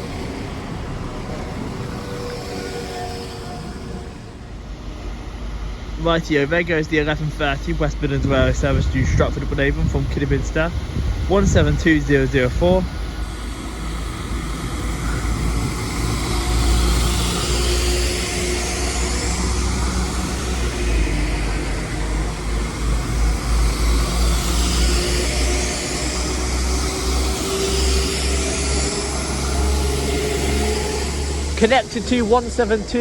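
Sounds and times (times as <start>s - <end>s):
faint rising whine: 0.0s - 33.0s
train engines rumbling: 0.0s - 33.0s.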